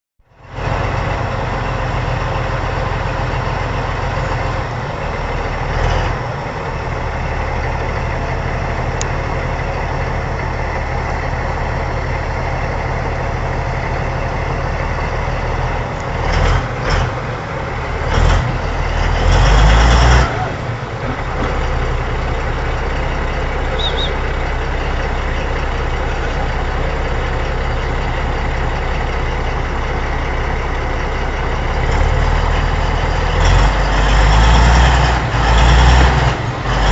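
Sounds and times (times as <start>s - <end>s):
diesel engine running: 0.2s - 36.9s
engine knocks: 0.6s - 36.9s.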